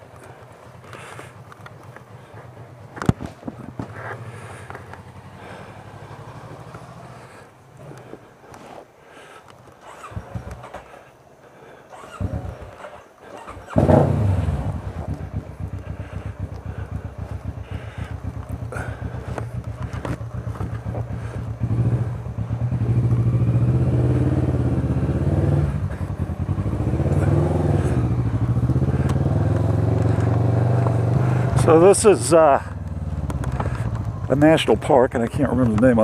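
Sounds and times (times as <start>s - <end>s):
motorcycle engine running: 0.0s - 7.4s, 9.8s - 10.9s, 11.9s - 36.0s.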